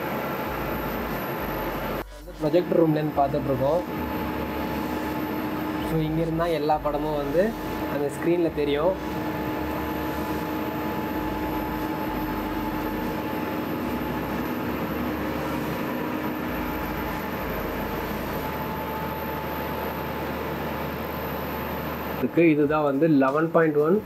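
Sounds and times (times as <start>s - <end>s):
whirring hum of cooling fans: 0.0s - 24.0s.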